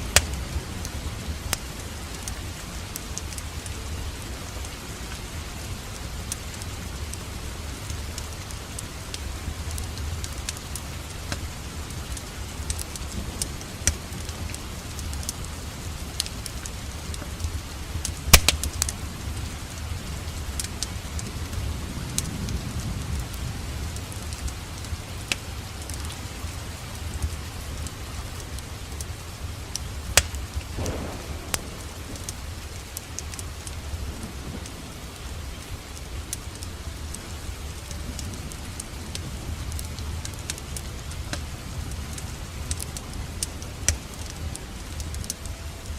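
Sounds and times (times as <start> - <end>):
steady rain: 0.0 - 45.9
wood fire crackling: 0.0 - 45.9.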